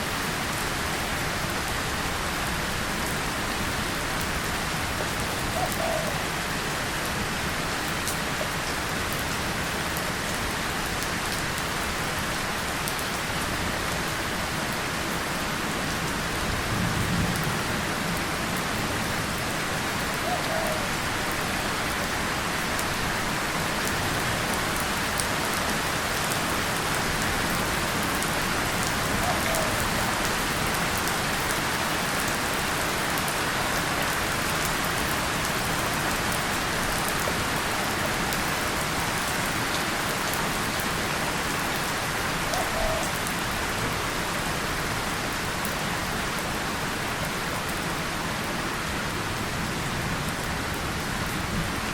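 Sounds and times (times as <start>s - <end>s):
rain on a tin surface: 0.0s - 51.9s.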